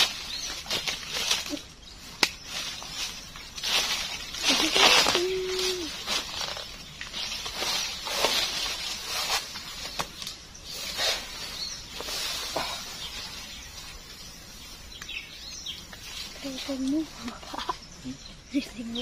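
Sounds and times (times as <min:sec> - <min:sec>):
hammock fabric rustling: 0:00.0 - 0:17.7.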